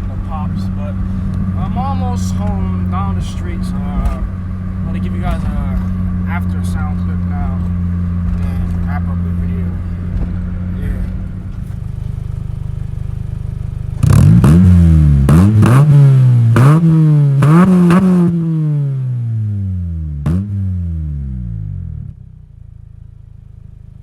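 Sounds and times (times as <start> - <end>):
exhaust pop: 0.0 - 19.6
car engine revving: 0.0 - 23.8.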